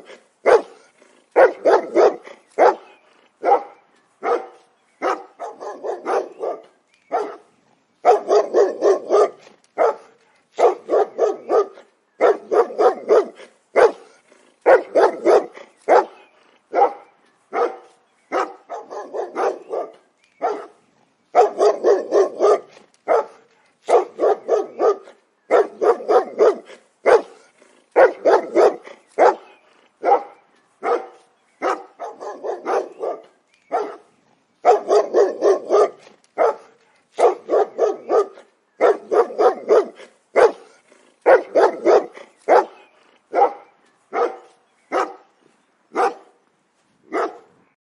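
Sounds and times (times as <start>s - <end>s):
dog barking: 0.0s - 45.3s, 45.9s - 46.4s, 47.1s - 47.6s.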